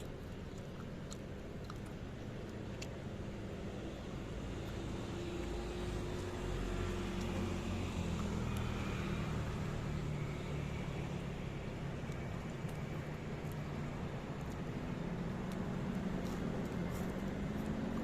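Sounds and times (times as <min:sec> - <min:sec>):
vehicle engine rumble passing: 0:03.2 - 0:18.0.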